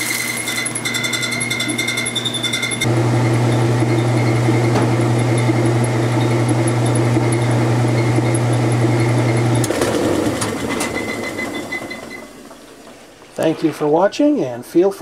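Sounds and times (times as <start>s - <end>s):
washing machine motor hum: 0.0s - 14.8s.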